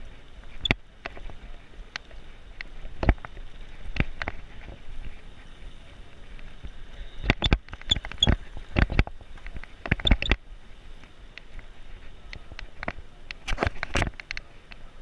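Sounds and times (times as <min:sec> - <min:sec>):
bicycle rattling and clicking: 0:00.0 - 0:14.8
road and wind noise: 0:00.0 - 0:15.0.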